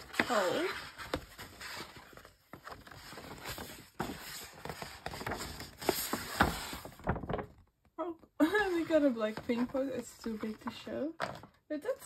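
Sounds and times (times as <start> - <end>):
paper poster rustling and crinkling: 0.0 - 7.7, 8.4 - 12.0.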